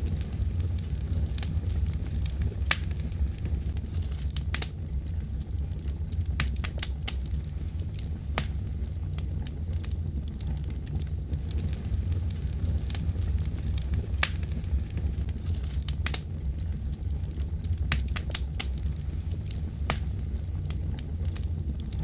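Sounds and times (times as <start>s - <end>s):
fire crackling and popping: 0.0s - 22.0s
low rumble of fire: 0.0s - 22.0s.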